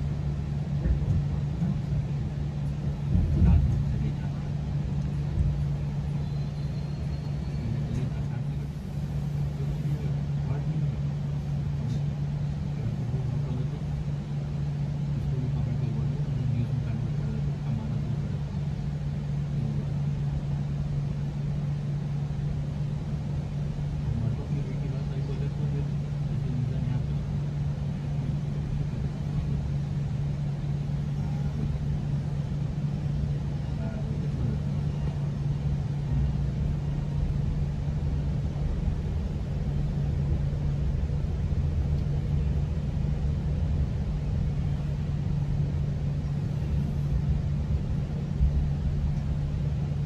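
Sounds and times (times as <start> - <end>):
constant low hum: 0.0 - 50.0
train rumble inside coach: 0.0 - 50.0.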